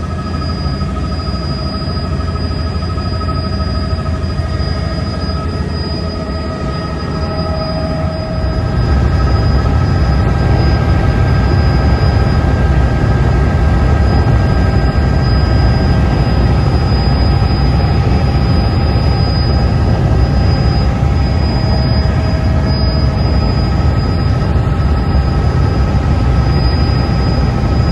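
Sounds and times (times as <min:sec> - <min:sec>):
helicopter rotor and engine drone: 0:00.0 - 0:27.9
high whine: 0:00.0 - 0:27.9.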